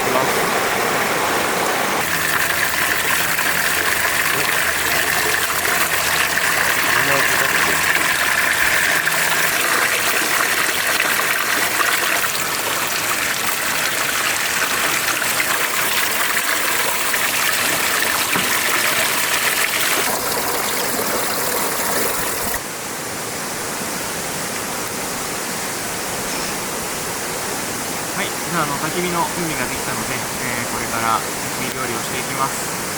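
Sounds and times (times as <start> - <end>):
mountain stream rushing over rocks: 0.0 - 32.9.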